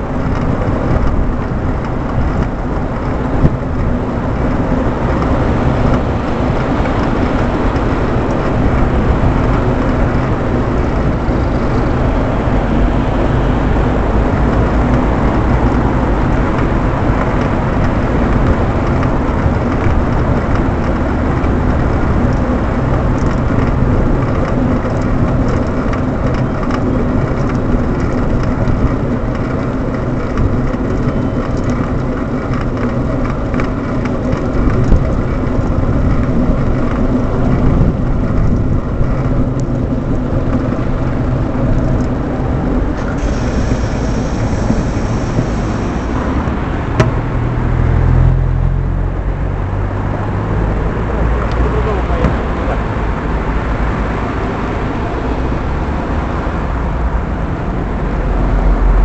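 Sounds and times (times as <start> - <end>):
car traffic on busy road: 0.0 - 59.0.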